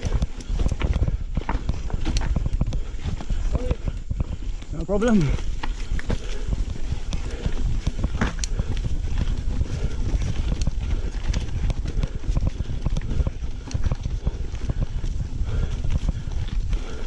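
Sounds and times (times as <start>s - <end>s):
mountain bike rattling on dirt trail: 0.0s - 17.0s.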